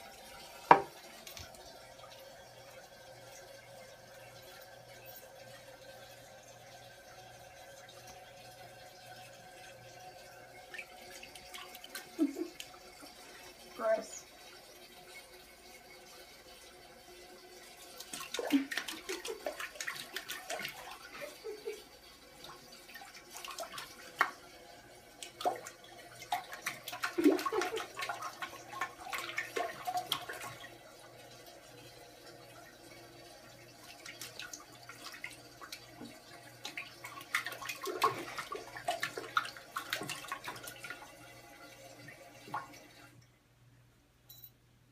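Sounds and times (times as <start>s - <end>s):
kitten splashing toilet water: 0.0s - 43.2s
toilet bowl water swirling: 0.0s - 43.3s.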